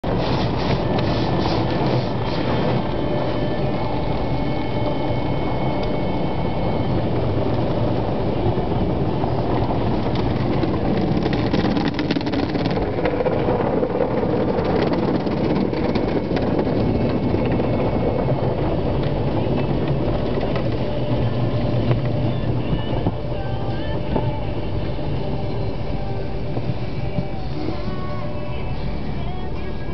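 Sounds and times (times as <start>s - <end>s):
car wash machinery rumbling: 0.0s - 29.9s.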